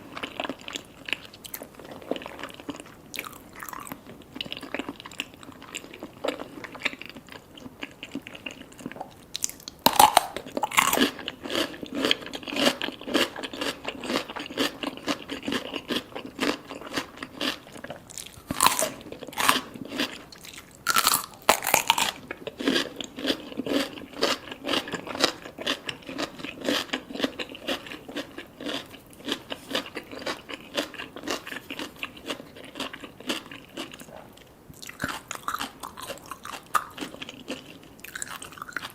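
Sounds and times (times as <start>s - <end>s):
wet crunching chewing: 0.0s - 38.9s.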